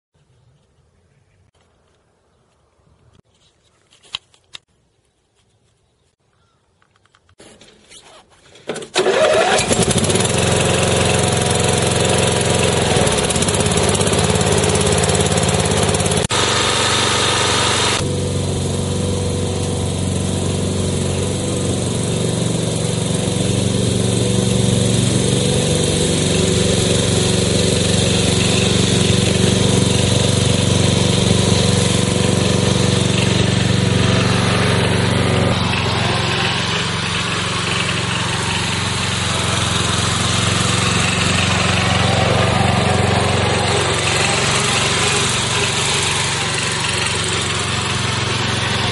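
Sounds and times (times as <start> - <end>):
lawn tractor engine running: 8.4 - 48.9.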